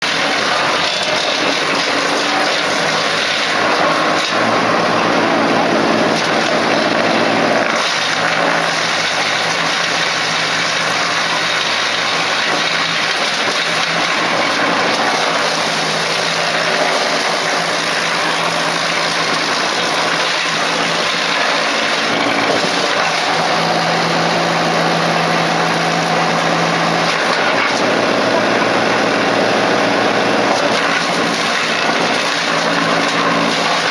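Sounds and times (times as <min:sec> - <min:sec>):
wood chipper running: 0:00.0 - 0:33.9.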